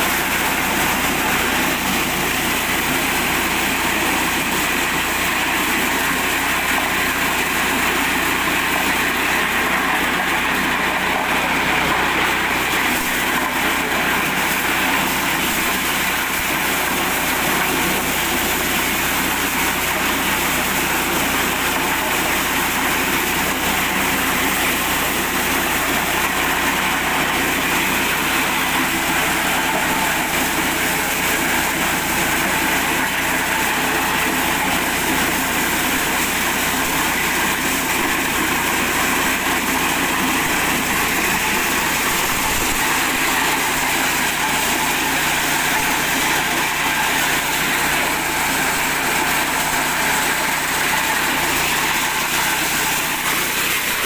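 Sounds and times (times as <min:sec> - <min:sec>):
corn sheller petrol engine running: 0:00.0 - 0:54.0.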